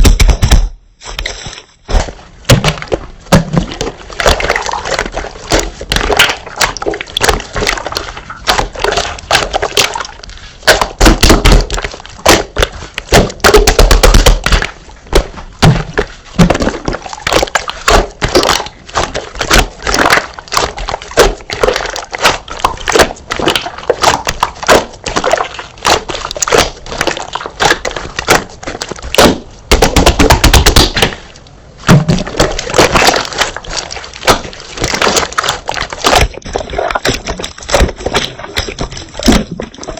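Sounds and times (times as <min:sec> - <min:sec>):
slime squeezed crackling: 0:01.9 - 0:39.9.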